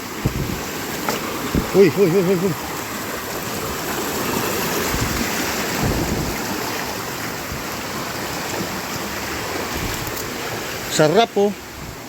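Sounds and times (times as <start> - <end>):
waterfall roar: 0.0 - 12.0.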